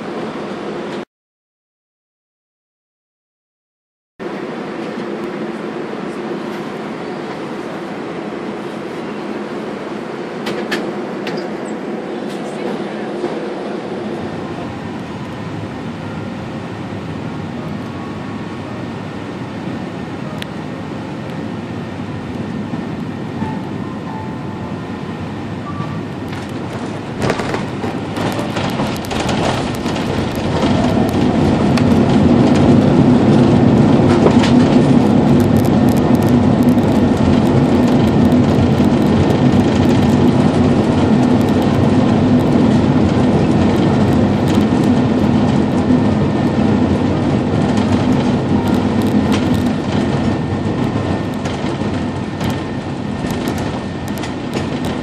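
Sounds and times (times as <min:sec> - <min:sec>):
aircraft cabin rumble: 0:04.2 - 0:55.0.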